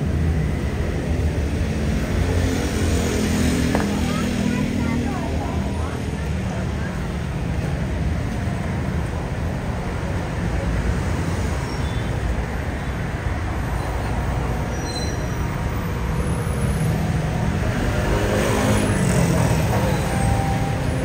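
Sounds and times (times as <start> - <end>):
city road traffic: 0.0 - 21.0.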